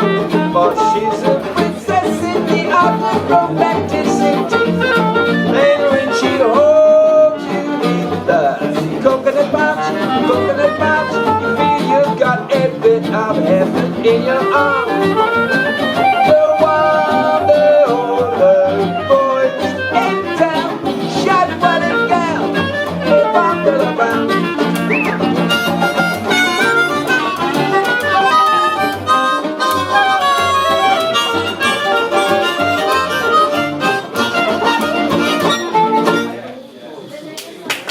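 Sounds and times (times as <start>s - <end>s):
small band playing live: 0.0s - 36.7s.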